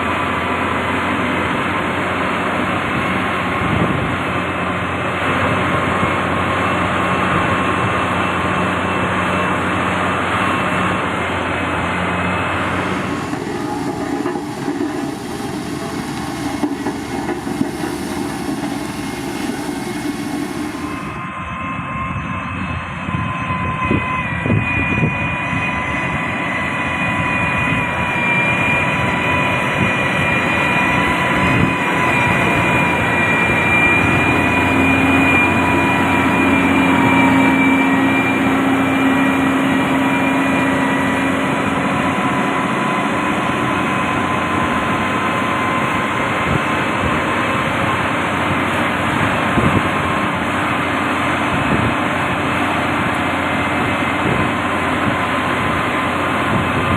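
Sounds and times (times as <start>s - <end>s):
diesel engine running under load: 0.0s - 56.9s
high steady whine: 0.0s - 56.9s.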